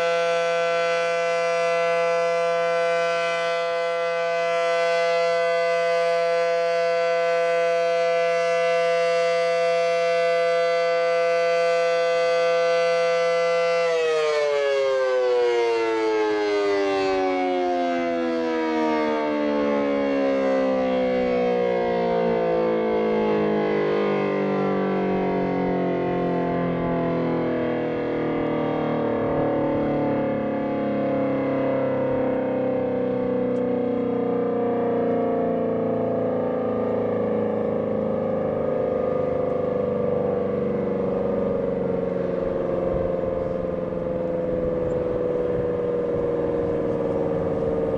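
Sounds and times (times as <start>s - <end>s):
warning siren winding down: 0.0s - 47.9s.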